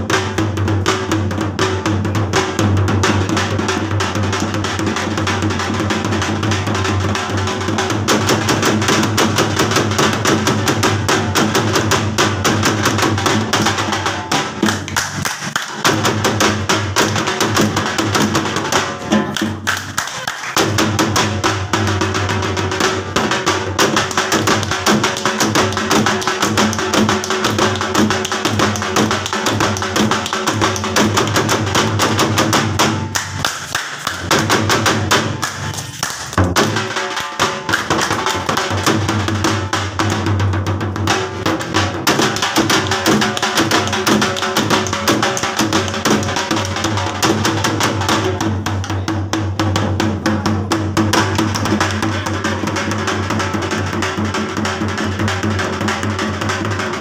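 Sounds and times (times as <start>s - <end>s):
fast drum rhythm: 0.0s - 57.0s.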